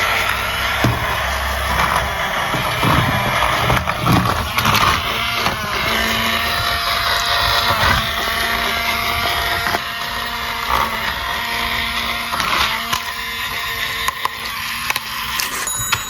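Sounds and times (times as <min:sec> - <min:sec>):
toy motor whirring: 0:00.0 - 0:16.0.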